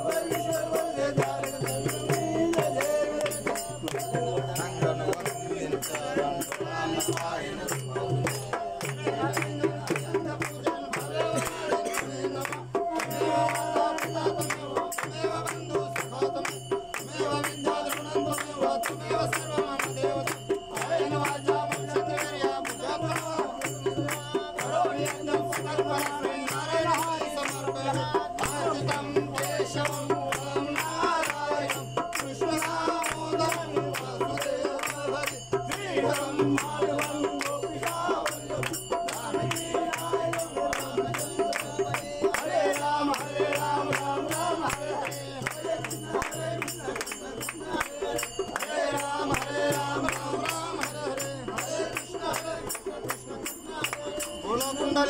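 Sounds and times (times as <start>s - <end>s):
group of people singing: 0.0s - 55.0s
hand clapping: 0.1s - 54.9s.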